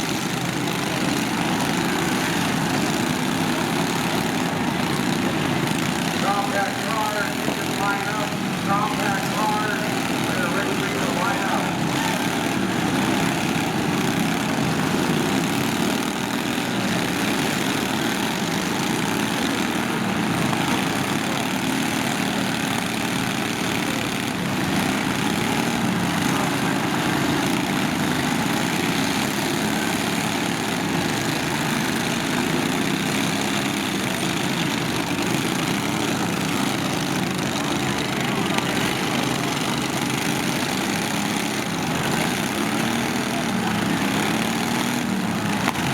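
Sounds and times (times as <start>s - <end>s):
lawn tractor engines running: 0.0s - 45.9s.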